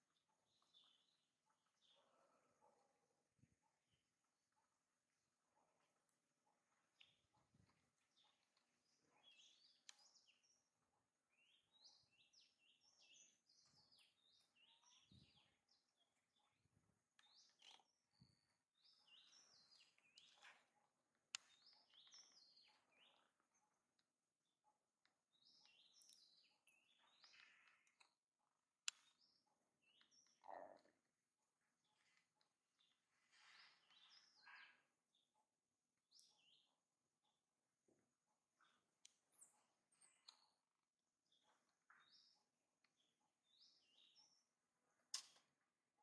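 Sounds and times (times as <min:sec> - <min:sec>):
faint birds chirping: 0:00.0 - 0:46.0.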